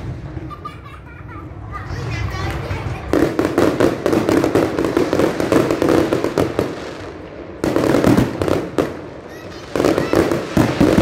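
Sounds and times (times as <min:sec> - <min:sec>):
fireworks crackling bangs: 0:00.0 - 0:11.0.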